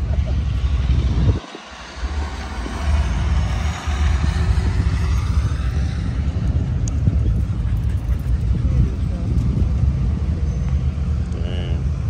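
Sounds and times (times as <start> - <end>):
car engine passing slowly: 0.0 - 12.0.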